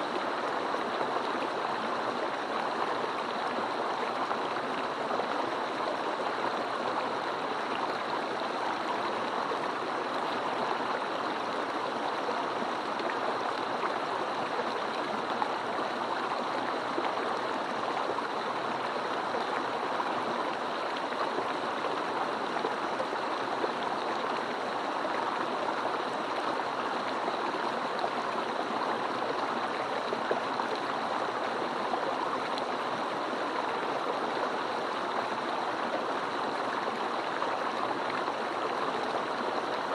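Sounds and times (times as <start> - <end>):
stream rushing and babbling: 0.0 - 39.9.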